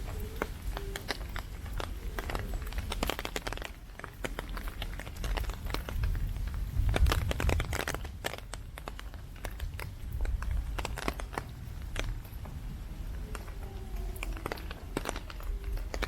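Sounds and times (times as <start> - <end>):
heavy rain ticking: 0.0 - 16.0
wind buffeting microphone: 0.0 - 16.0.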